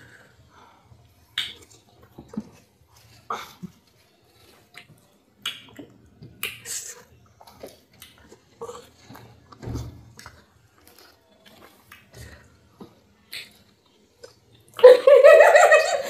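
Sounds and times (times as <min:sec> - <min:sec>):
wet eating smacks and chewing: 0:01.1 - 0:14.8.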